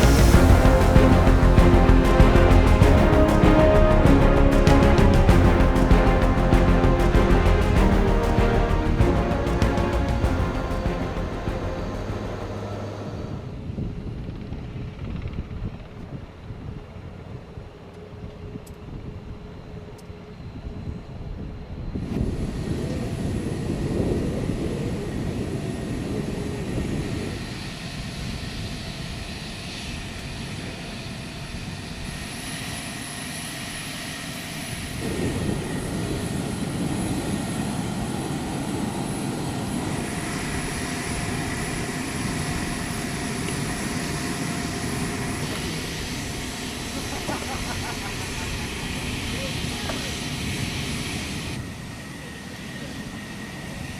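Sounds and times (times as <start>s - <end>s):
aircraft engines running: 0.0s - 53.9s.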